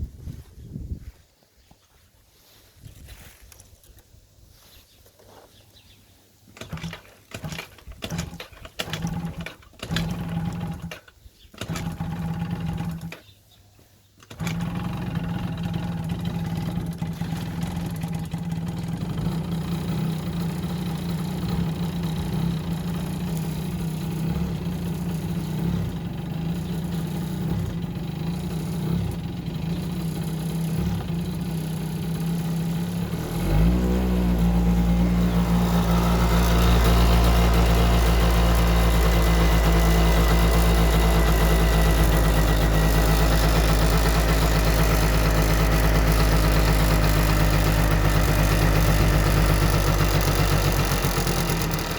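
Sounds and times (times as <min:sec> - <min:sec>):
scooter engine cranking: 0:06.5 - 0:13.4, 0:14.2 - 0:51.9
scooter engine running: 0:06.6 - 0:13.3, 0:14.2 - 0:51.9.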